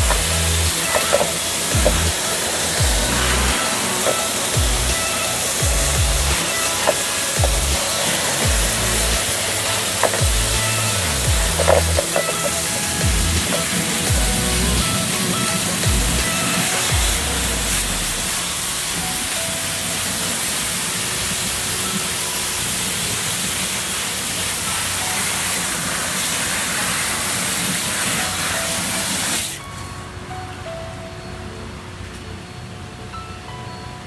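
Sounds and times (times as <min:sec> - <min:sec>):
water spraying: 0:00.0 - 0:29.6
background music: 0:00.0 - 0:34.0.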